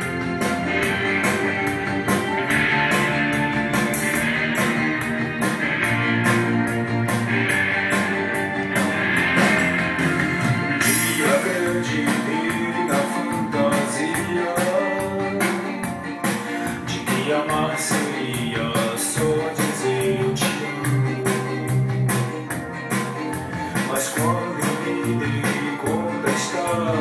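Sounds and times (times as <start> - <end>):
pop-rock song from vinyl record: 0.0 - 27.0.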